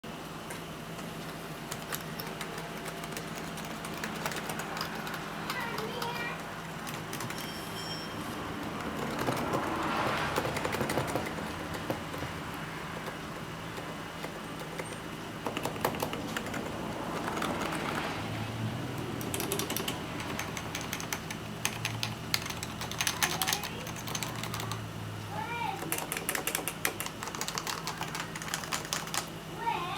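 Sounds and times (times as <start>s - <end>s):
keyboard typing: 0.5s - 24.9s, 25.7s - 29.4s.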